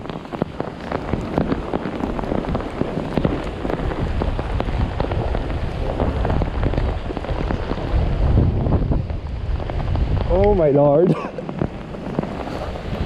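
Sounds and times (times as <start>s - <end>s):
heavy rain falling: 0.0s - 13.0s
raindrops hitting microphone: 0.0s - 13.0s.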